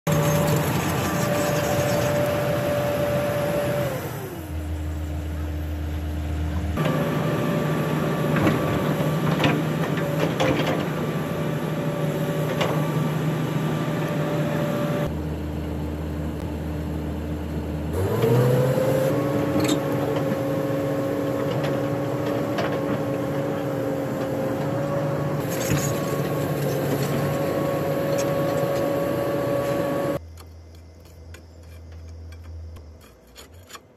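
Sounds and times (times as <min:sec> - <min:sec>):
excavator engine and hydraulic whine: 0:00.1 - 0:33.9.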